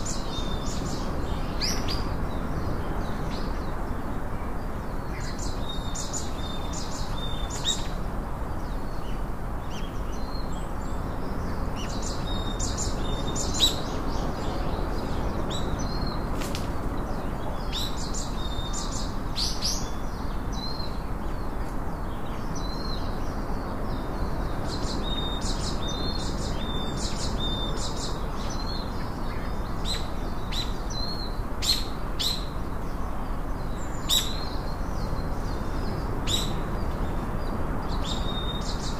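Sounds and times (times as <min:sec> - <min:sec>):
small birds chirping: 0:04.6 - 0:38.9.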